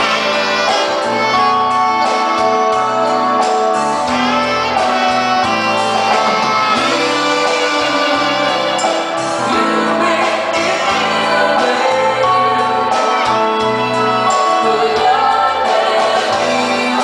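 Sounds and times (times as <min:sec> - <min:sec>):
dance band playing with vocals: 0:00.0 - 0:17.0.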